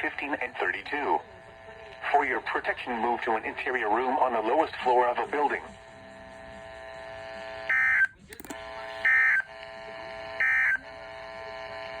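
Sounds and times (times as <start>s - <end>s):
faint radio hum: 0.0s - 12.0s.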